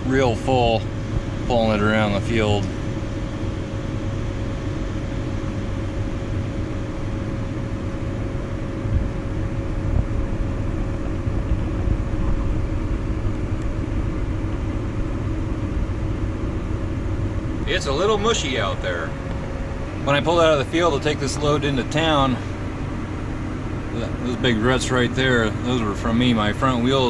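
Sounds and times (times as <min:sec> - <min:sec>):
farm vehicle engine running: 0:00.0 - 0:27.0.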